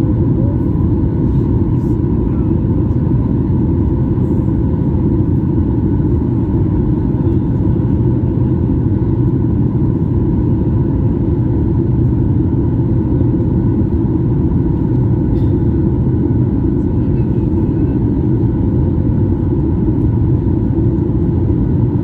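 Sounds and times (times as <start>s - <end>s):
airliner cabin engine drone: 0.0s - 22.0s.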